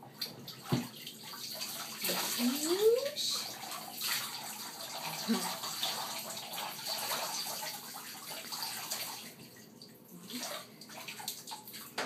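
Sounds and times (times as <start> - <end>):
water pouring into bathtub: 0.1 - 12.0
small water splashes: 0.2 - 12.0.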